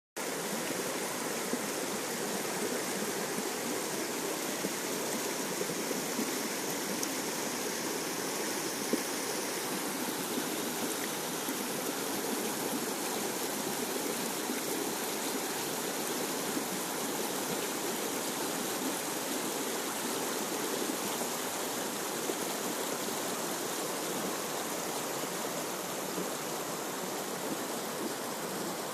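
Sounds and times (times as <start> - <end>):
river rushing over rocks: 0.2 - 28.9.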